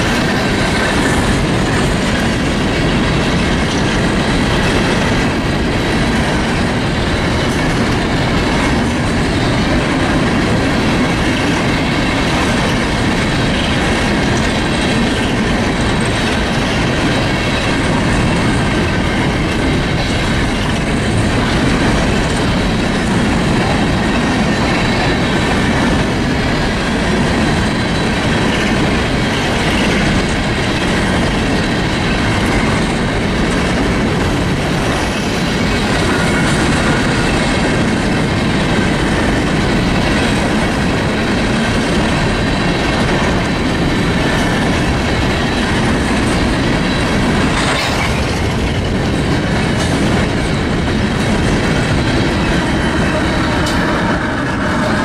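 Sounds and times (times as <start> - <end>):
freight train rumble: 0.0 - 55.0
wheels clattering over rails: 0.0 - 55.0.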